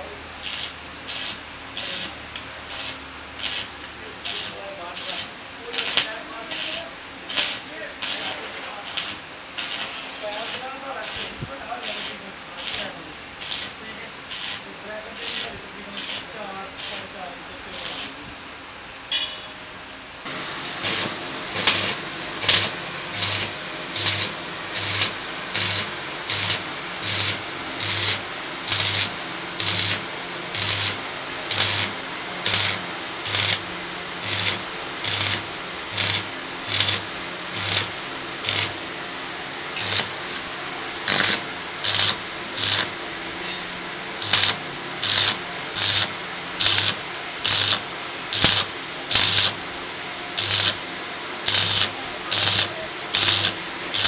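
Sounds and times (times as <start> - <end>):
welding arc crackling and hissing: 0.0 - 18.3, 20.2 - 54.0.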